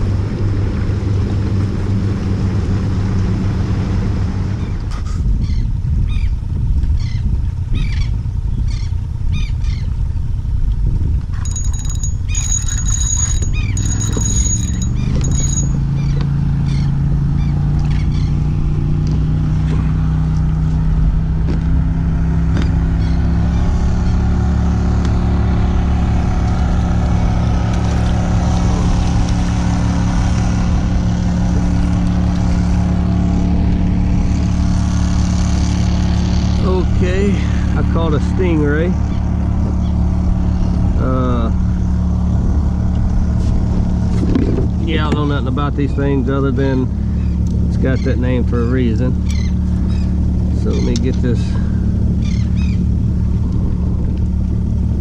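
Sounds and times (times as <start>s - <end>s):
motorboat engine speeding up: 0.0s - 55.0s
wind rumble on microphone: 0.0s - 55.0s.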